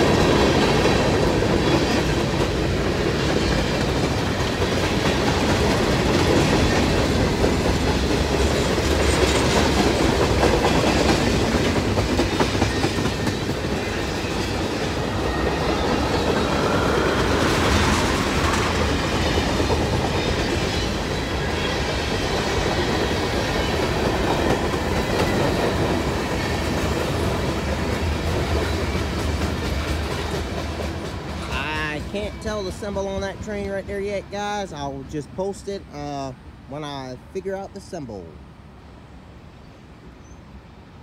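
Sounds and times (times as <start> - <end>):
train wheels clicking over rail joints: 0.0 - 34.3
freight cars rolling past: 0.0 - 35.9.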